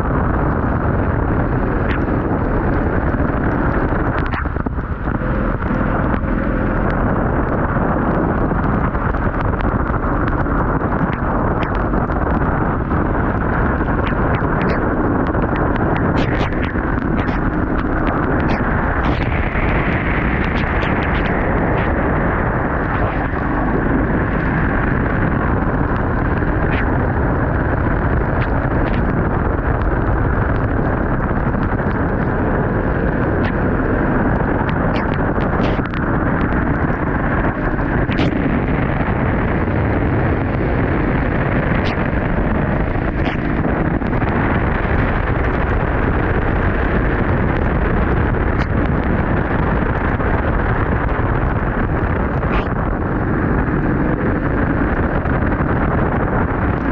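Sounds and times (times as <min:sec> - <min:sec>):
off-road vehicle engine rumble: 0:00.0 - 0:56.9
wind buffeting microphone: 0:00.0 - 0:56.9.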